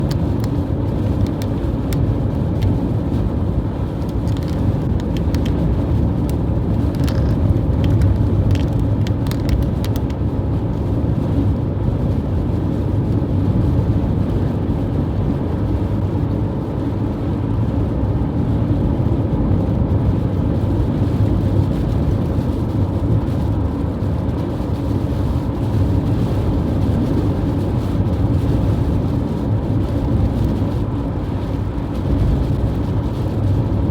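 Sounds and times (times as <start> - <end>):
strong wind rumbling: 0.0 - 33.9.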